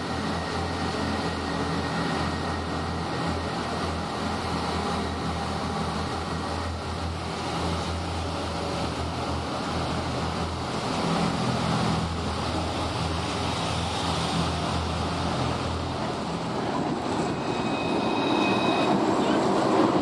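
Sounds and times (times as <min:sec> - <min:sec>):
city street with tram: 0:00.0 - 0:20.0
diesel train engines humming: 0:00.0 - 0:20.0.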